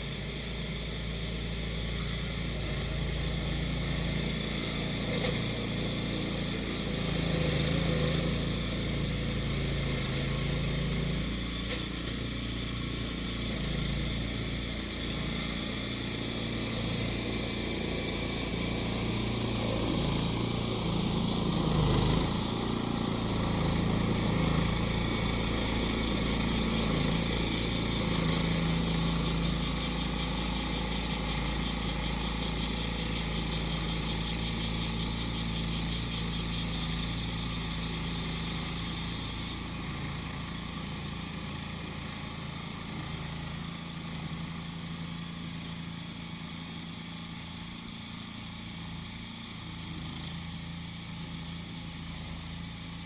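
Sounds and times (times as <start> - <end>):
cicadas buzzing: 0.0 - 53.0
lawn mower engine running: 0.0 - 53.0.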